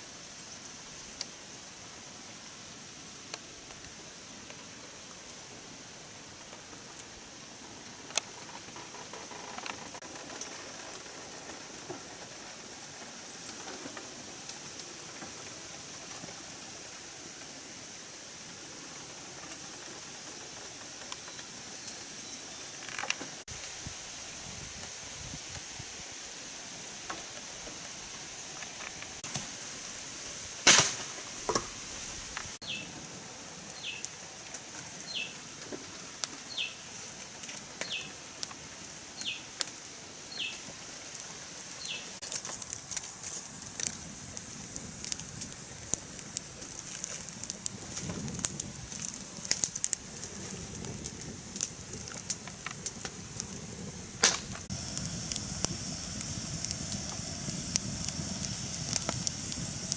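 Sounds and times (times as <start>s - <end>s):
crackling and rustling: 6.4s - 17.6s, 18.4s - 23.8s, 27.0s - 59.9s.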